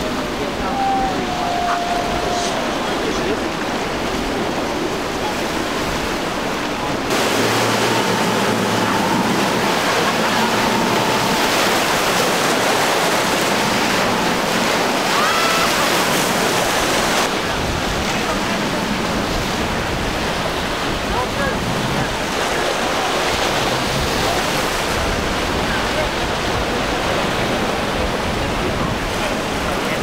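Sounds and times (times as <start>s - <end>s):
outboard engine drone: 0.0s - 30.0s
waves breaking: 0.0s - 30.0s.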